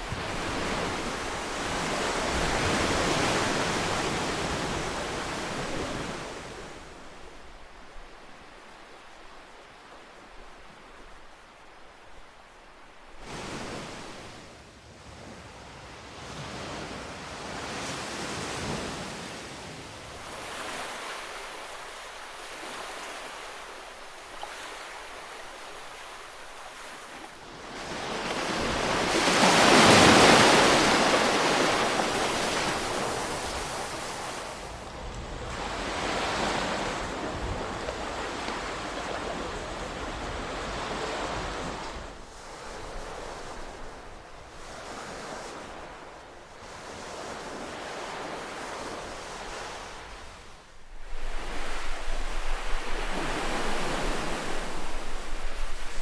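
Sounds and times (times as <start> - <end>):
ocean waves washing onto shore: 0.0 - 56.0.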